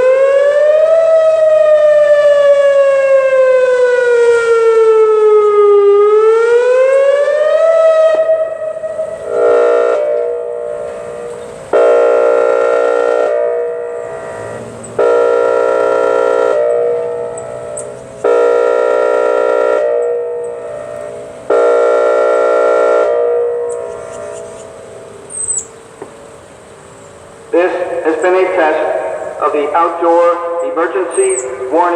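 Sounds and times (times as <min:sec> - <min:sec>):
siren wailing: 0:00.0 - 0:26.5, 0:27.4 - 0:31.9
siren air-horn blasts: 0:00.0 - 0:26.6, 0:27.2 - 0:31.9.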